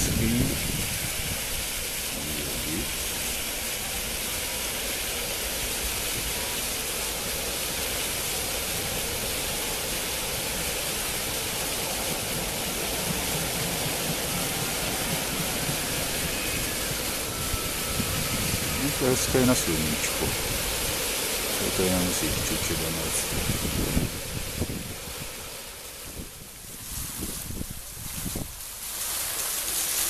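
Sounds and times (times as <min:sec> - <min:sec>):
fountain water splashing into basin: 0:00.0 - 0:30.0.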